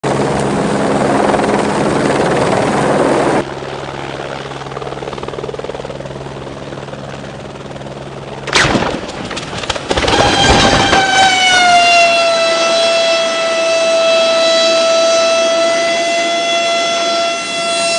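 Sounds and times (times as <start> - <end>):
helicopter running: 0.0 - 17.9.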